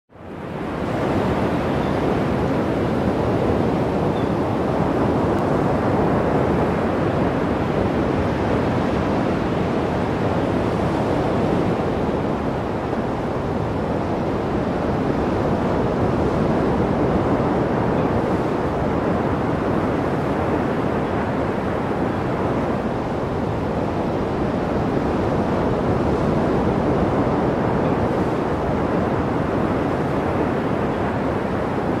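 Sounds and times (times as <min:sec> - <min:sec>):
wind rushing on microphone: 0:00.1 - 0:32.0.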